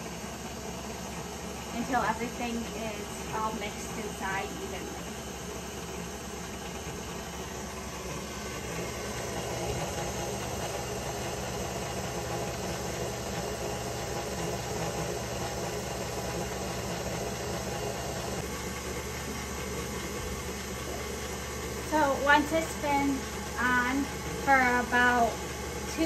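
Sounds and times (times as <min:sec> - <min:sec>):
stand mixer motor humming: 0:00.0 - 0:26.0.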